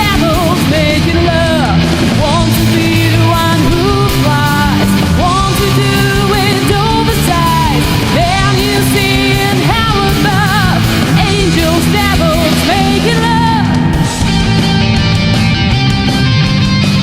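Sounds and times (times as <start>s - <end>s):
alternative rock band playing: 0.0s - 17.0s.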